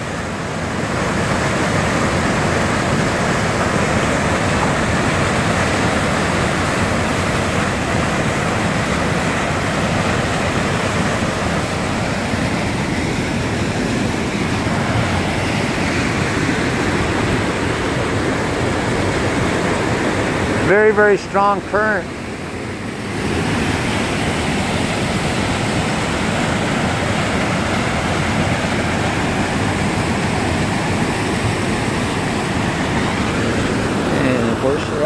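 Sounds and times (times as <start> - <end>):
creek rushing over rocks: 0.0 - 35.0.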